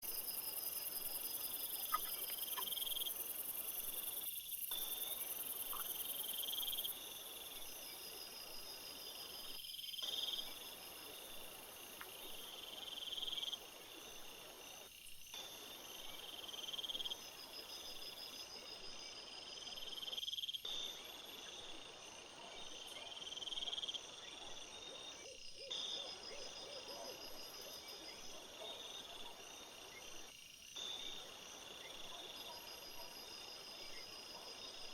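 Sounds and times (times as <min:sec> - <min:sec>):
crickets and insects chirping: 0:00.0 - 0:34.9.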